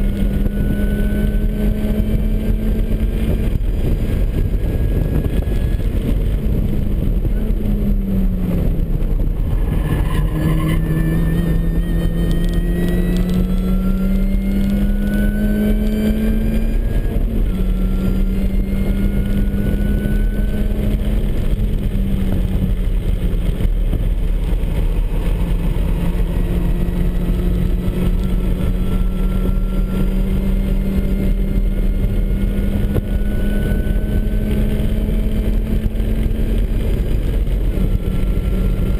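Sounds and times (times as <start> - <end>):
car engine revving through gears: 0.0 - 38.9
road and wind noise: 0.0 - 38.9.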